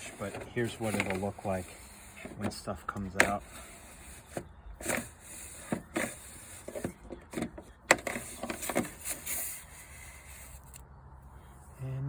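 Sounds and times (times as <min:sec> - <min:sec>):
brush scraping inside duct: 0:00.0 - 0:07.4, 0:08.0 - 0:10.8.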